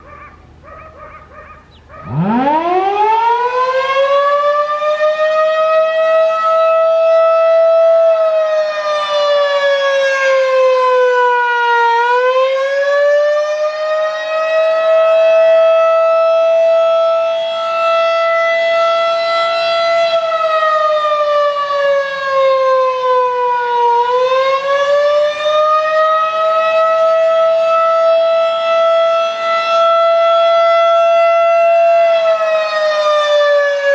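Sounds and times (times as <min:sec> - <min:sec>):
warning siren winding up: 0:02.0 - 0:33.9.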